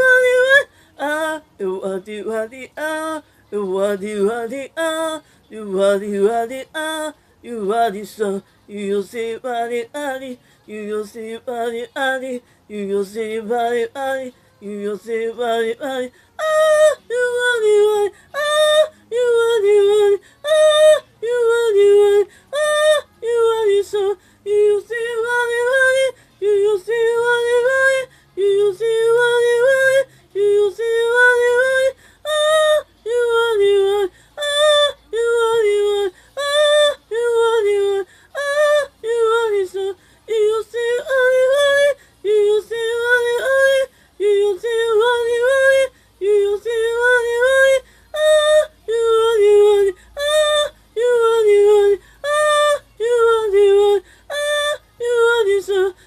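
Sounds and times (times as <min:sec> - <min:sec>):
high voice singing wordless phrases: 0:00.0 - 0:56.0.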